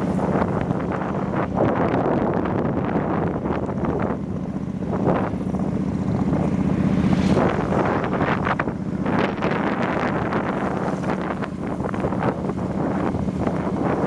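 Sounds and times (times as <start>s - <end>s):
motorbike low hum: 0.0s - 14.0s
wind buffeting microphone: 0.0s - 14.0s.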